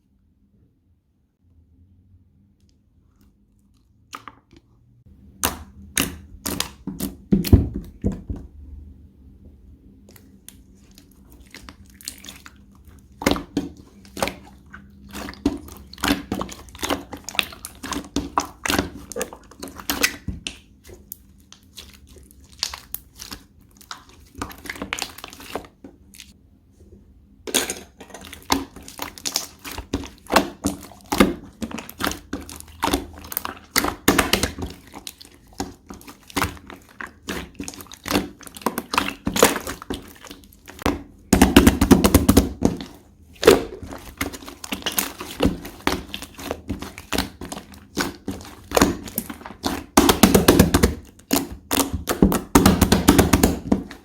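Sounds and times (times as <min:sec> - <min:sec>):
slime squishing by hand: 0:03.1 - 0:08.9, 0:09.9 - 0:26.4, 0:27.0 - 0:54.0.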